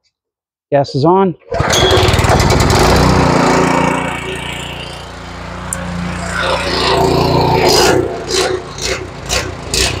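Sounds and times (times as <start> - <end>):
lawn mower engine running: 1.5 - 10.0.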